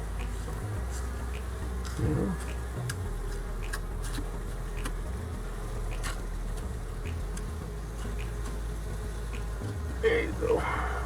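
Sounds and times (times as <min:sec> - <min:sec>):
honeybees buzzing: 0:00.0 - 0:11.0
low steady rumble: 0:00.0 - 0:11.0.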